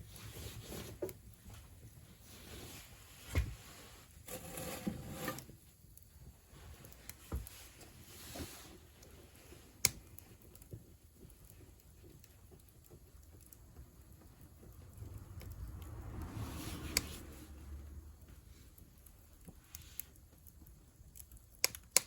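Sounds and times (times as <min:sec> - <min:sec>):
wood fire crackling in stove: 0:00.0 - 0:22.0.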